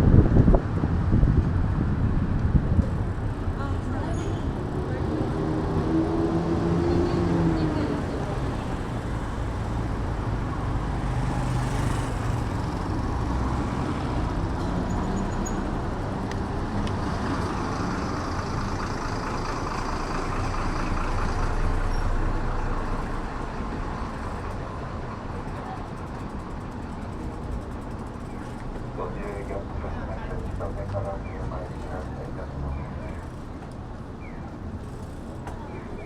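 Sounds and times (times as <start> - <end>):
rumble of road traffic: 0.0 - 36.0.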